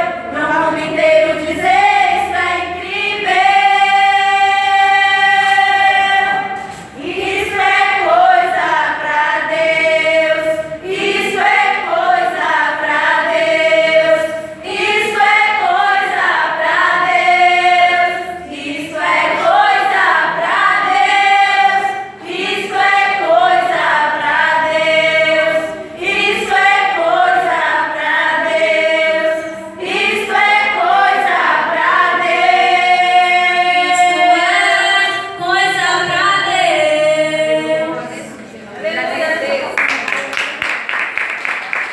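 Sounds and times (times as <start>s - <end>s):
vocal group singing in harmony: 0.0s - 39.7s.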